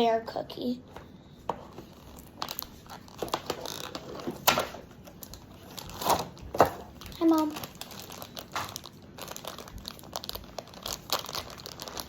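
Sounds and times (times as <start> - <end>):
plastic packaging crinkling: 1.7 - 12.0.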